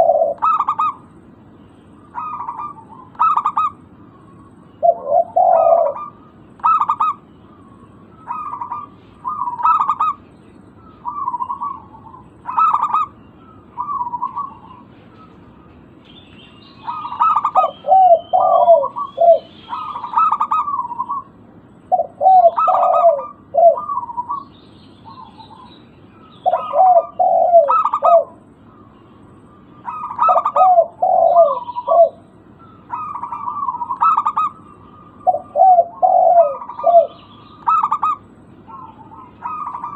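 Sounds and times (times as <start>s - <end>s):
doves cooing: 0.0s - 1.3s, 1.9s - 39.9s
faint high bird chirps: 0.0s - 39.9s.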